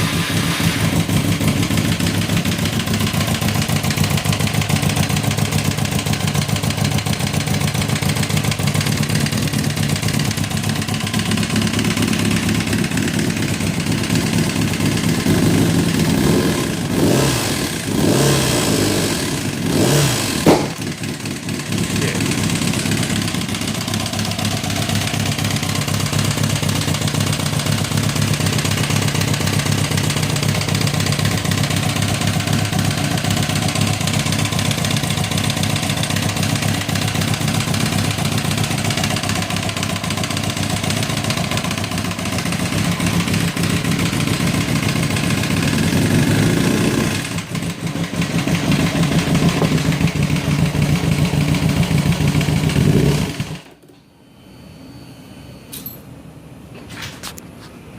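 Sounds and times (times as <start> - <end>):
motorcycle engine knocking: 0.7 - 18.3, 19.2 - 53.7.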